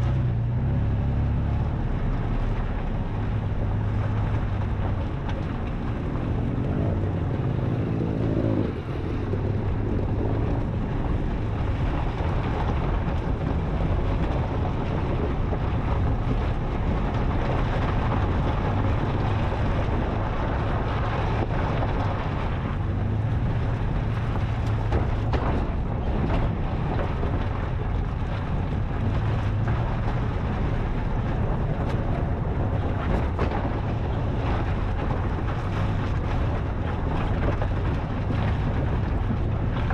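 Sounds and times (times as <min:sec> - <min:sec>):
car engine running: 0:00.0 - 0:39.9
tyre and road noise: 0:00.0 - 0:39.9
wind on microphone: 0:00.0 - 0:39.9.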